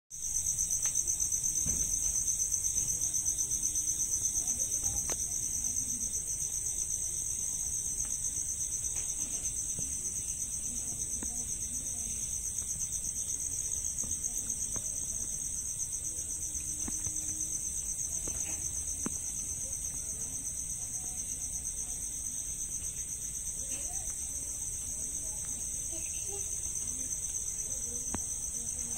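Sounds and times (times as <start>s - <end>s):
insects trilling: 0.2s - 28.9s.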